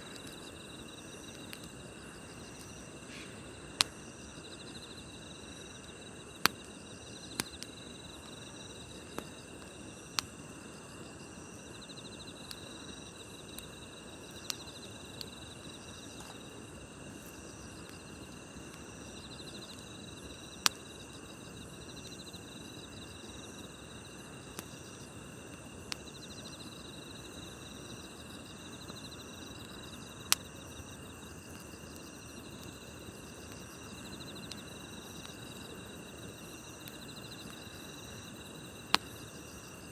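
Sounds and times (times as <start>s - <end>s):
campfire crackling: 0.0s - 39.9s
crickets chirring: 0.0s - 39.9s
fire popping: 0.0s - 39.9s.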